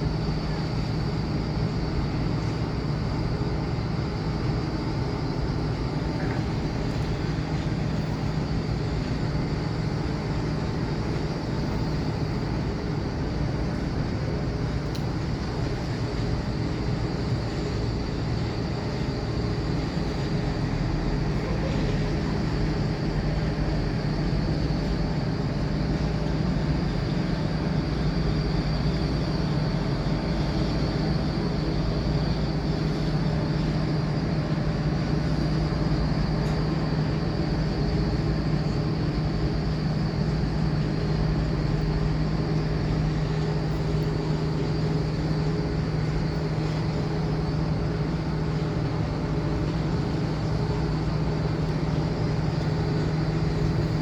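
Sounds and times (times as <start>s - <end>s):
mechanical drone with low hum: 0.0s - 54.0s.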